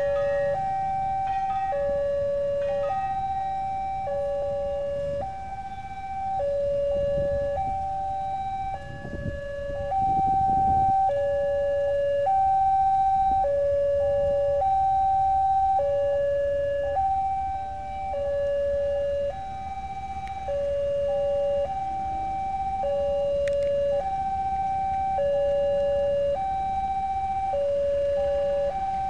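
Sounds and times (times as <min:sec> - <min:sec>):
level-crossing two-tone alarm: 0:00.0 - 0:29.0
low background rumble: 0:00.0 - 0:29.0.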